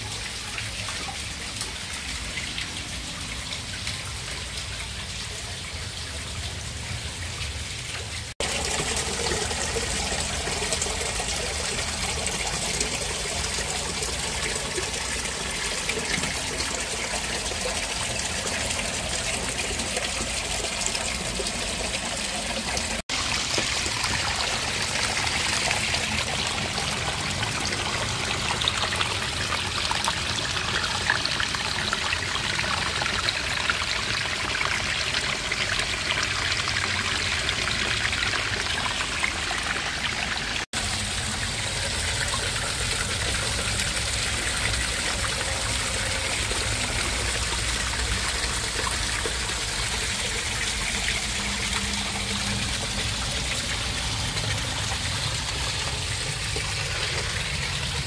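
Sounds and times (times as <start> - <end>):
water running over rock: 7.8 - 58.0.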